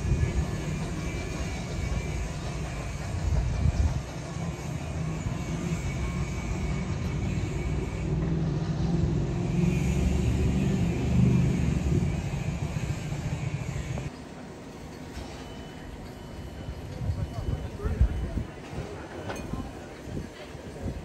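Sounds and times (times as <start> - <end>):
steam locomotive rumble: 0.0 - 21.0.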